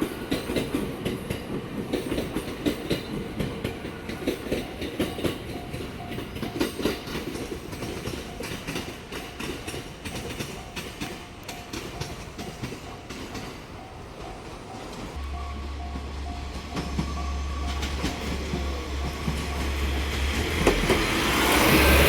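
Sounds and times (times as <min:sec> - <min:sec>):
train rumble: 0:00.0 - 0:22.0
train wheels clattering over rails: 0:00.0 - 0:22.0
level crossing warning bell ringing: 0:02.8 - 0:22.0.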